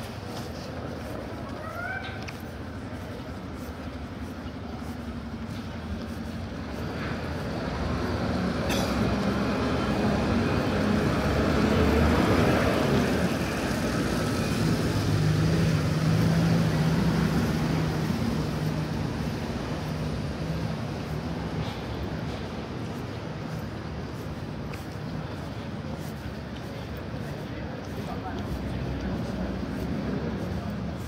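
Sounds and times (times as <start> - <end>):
lorry diesel engine: 2.5 - 31.0.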